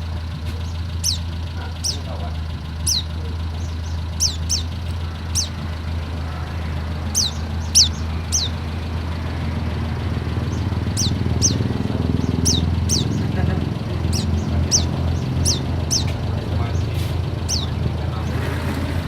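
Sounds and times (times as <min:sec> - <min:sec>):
bird chirping: 0:00.0 - 0:18.6.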